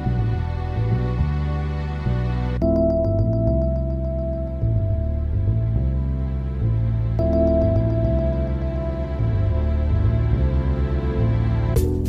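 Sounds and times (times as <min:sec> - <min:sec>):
keyboard and synthesizer music: 0:00.0 - 0:12.0
low bass notes: 0:00.0 - 0:12.0.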